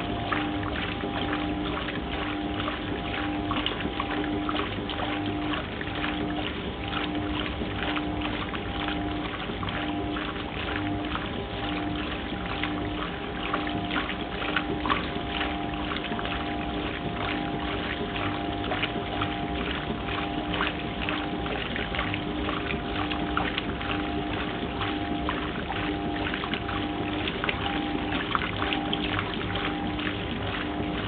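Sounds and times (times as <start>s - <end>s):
washing machine hum: 0.0s - 31.0s
water churning and splashing: 0.0s - 31.0s.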